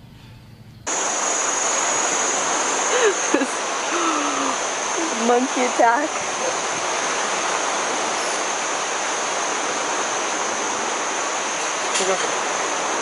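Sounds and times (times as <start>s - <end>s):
stream rushing: 0.9s - 13.0s.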